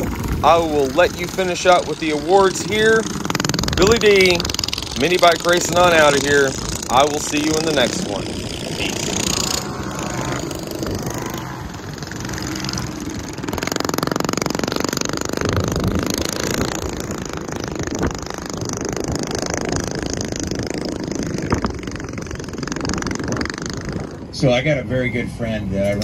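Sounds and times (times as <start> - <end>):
mini bike engines racing by: 0.0 - 25.2.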